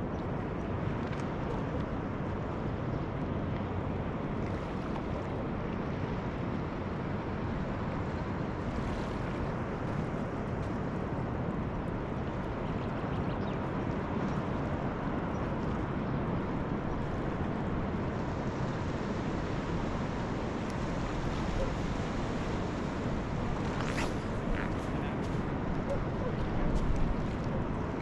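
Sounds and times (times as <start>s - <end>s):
water washing at shore: 0.0s - 13.0s, 13.6s - 28.0s
wind on microphone: 0.0s - 28.0s.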